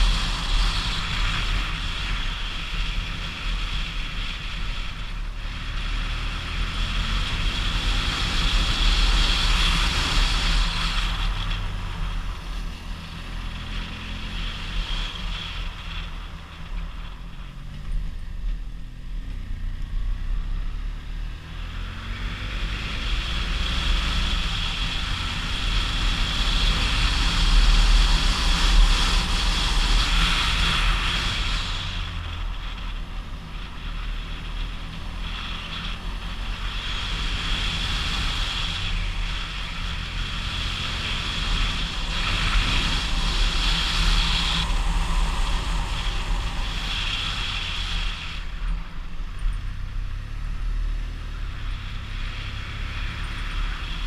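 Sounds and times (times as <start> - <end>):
vehicle engine running: 0.0 - 54.0
wind rushing over microphone: 0.0 - 54.0.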